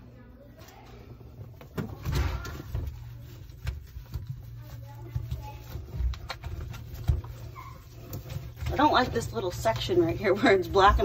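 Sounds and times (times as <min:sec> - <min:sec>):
wet cloth rubbing plastic: 0:01.0 - 0:11.0.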